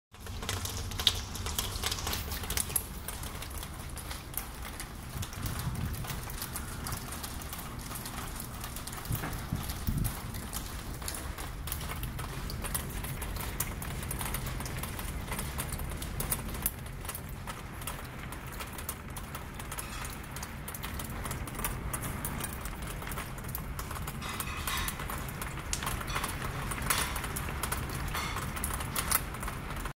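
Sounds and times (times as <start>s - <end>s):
heavy rain and wind: 0.2s - 29.9s
raindrops tapping on window: 0.2s - 30.0s.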